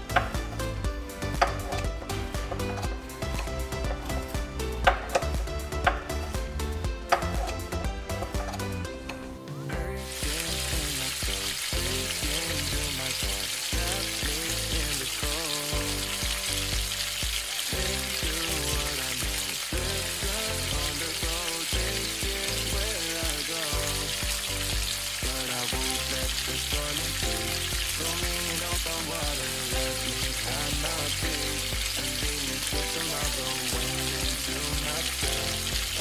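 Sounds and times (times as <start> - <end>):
pork sizzling in a pot: 0.0 - 8.8, 9.8 - 36.0
pop music with a beat: 0.0 - 36.0.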